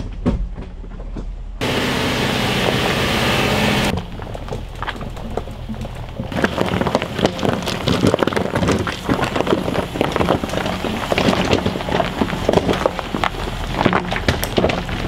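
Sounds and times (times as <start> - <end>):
car engine humming: 1.6 - 15.0
tyres crunching over gravel: 1.6 - 15.0.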